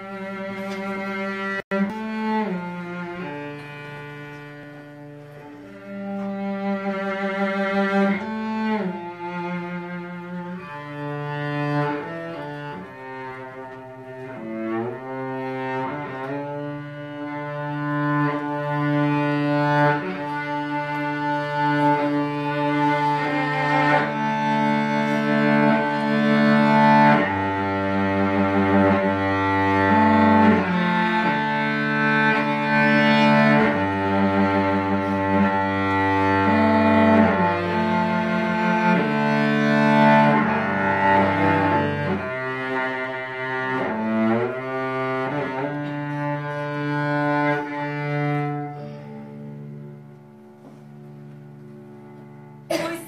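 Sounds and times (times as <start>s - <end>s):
solo cello bowed: 0.0s - 53.0s.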